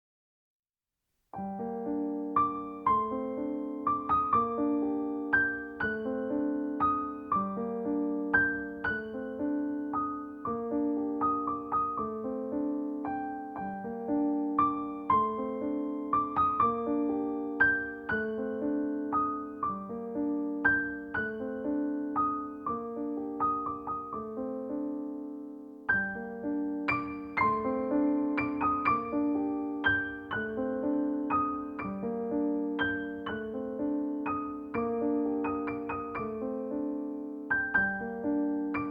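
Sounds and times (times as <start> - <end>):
gentle solo piano music: 1.3 - 38.9.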